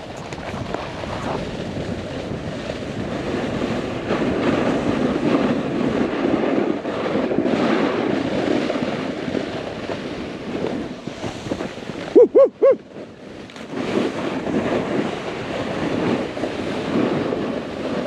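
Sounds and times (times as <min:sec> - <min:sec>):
snowboard scraping through snow: 0:00.0 - 0:18.0
wind buffeting microphone: 0:00.0 - 0:18.0.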